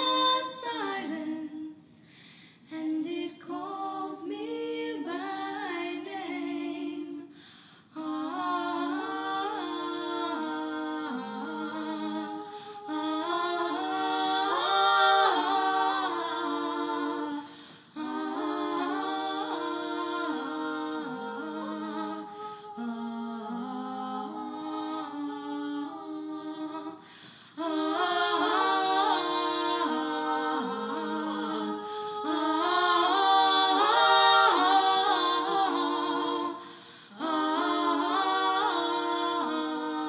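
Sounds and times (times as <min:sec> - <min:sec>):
layered voices humming and singing: 0:00.0 - 0:40.0.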